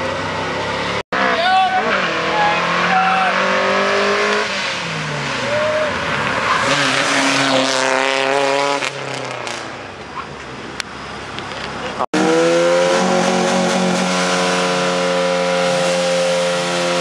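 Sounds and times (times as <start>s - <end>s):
car engines accelerating hard: 0.0s - 17.0s.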